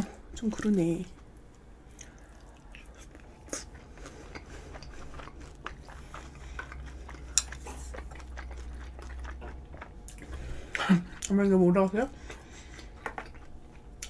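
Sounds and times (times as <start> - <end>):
chewing with wet mouth sounds: 0.1 - 14.0.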